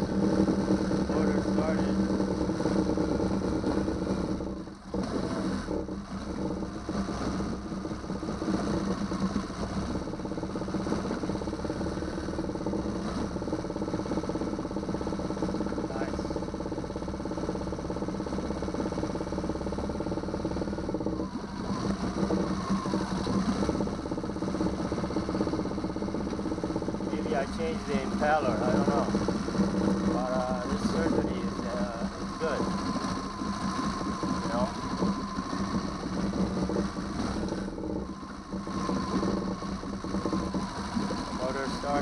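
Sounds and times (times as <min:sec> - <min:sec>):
outboard engine running: 0:00.0 - 0:42.0.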